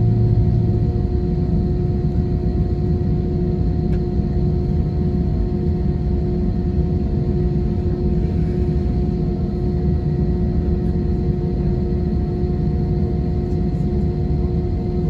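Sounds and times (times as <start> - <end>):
aircraft cabin rumble: 0.0 - 15.0
constant low hum: 0.0 - 15.0.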